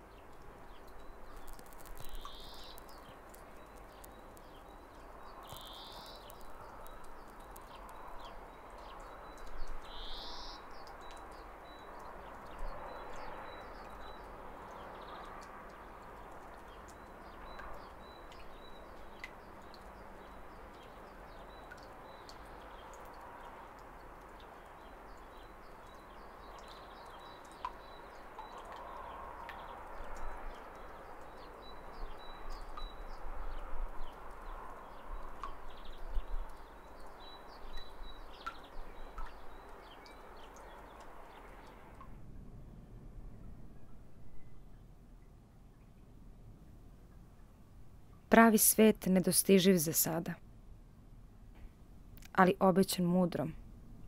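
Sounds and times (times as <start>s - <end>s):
quiet rural background: 0.0s - 54.0s.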